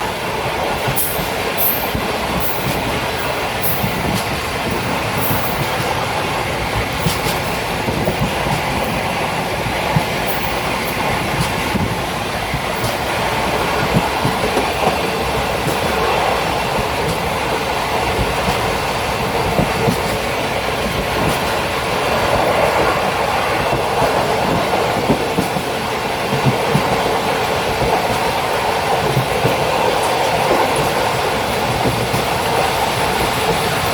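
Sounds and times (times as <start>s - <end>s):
railway carriage rolling rumble: 0.0s - 33.9s.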